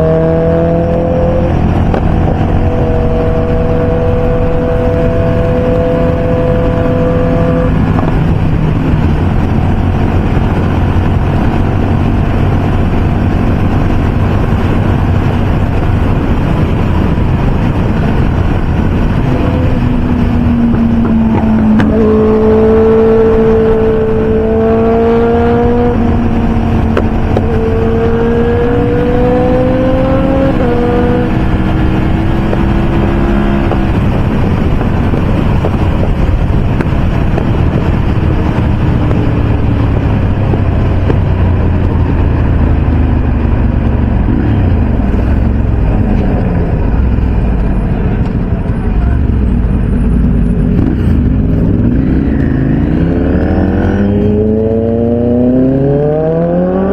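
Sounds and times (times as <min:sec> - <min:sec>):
motorcycle engines droning: 0:00.0 - 0:56.9
wind rush: 0:00.0 - 0:56.9.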